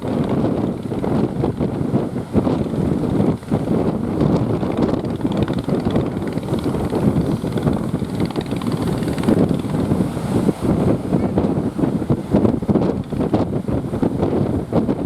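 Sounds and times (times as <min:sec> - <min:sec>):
heavy surf: 0:00.0 - 0:15.0
wind buffeting microphone: 0:00.0 - 0:15.0.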